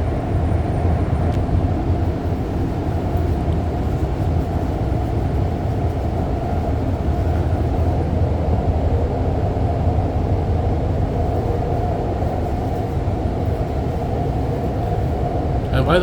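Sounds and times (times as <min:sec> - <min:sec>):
train rumbling from inside: 0:00.0 - 0:16.0.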